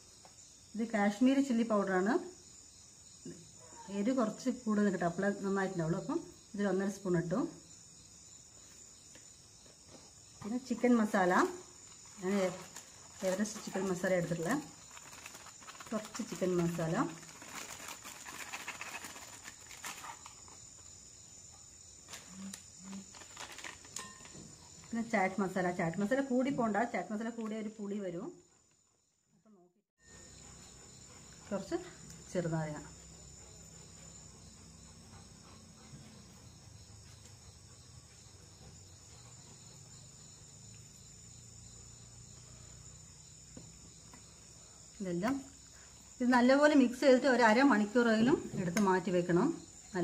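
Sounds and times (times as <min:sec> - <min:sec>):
crickets trilling: 0:00.0 - 0:29.1, 0:30.0 - 0:50.0
insects chirring: 0:00.0 - 0:29.3, 0:30.0 - 0:50.0.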